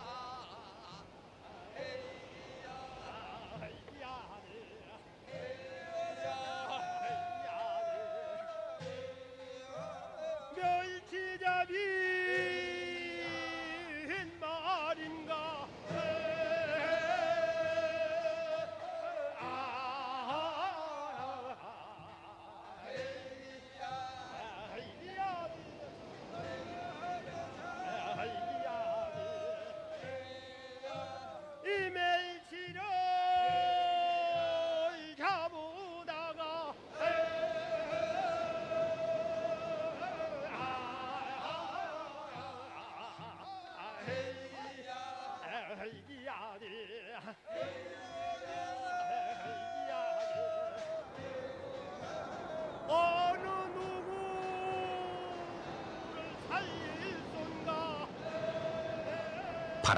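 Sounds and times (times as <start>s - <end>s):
folk singing with vibrato: 0.0s - 59.9s.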